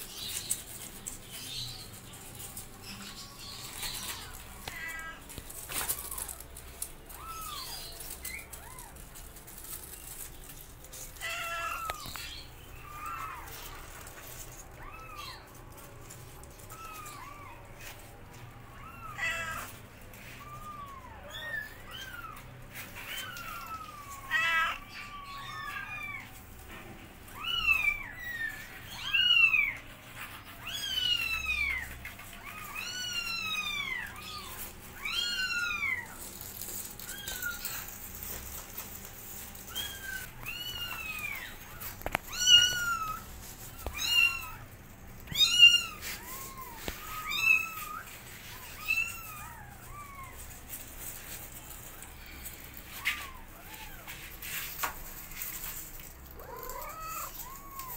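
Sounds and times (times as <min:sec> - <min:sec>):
kittens meowing: 0:00.1 - 0:57.9.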